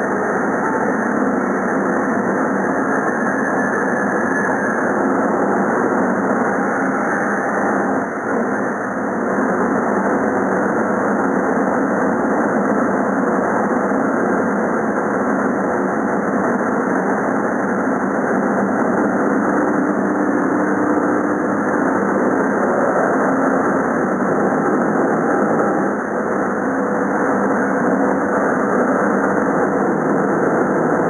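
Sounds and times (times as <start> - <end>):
faint hum: 0.0 - 31.0
laser cutting machine running: 0.0 - 31.0.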